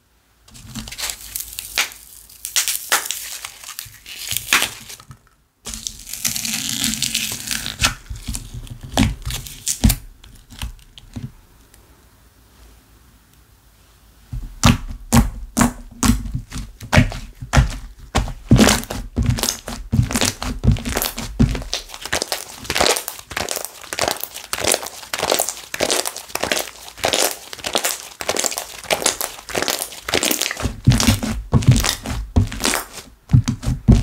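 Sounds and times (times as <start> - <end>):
slime crackling and popping: 0.8 - 5.0, 5.7 - 11.1, 14.6 - 34.0.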